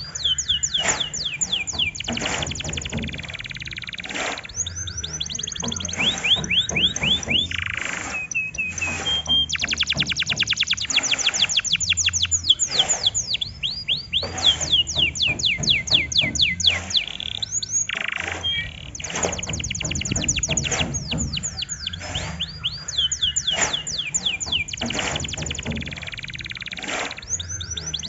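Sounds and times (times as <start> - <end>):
canary singing rolling trills: 0.0 - 28.0.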